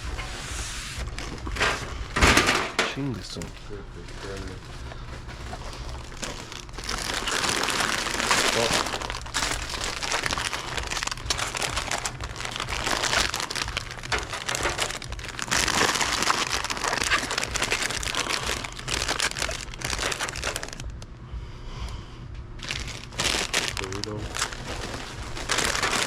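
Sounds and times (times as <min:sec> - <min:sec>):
foil bags crinkling: 0:00.0 - 0:21.1, 0:22.6 - 0:26.0
steady low hum: 0:00.0 - 0:26.0.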